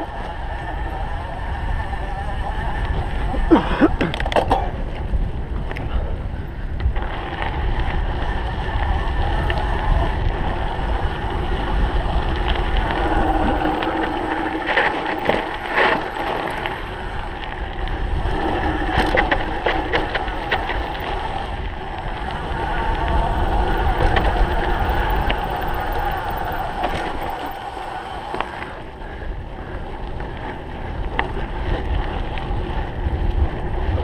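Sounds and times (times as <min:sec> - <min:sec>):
bike rattling over rough ground: 0:00.0 - 0:34.0
wind buffeting microphone: 0:00.0 - 0:34.0.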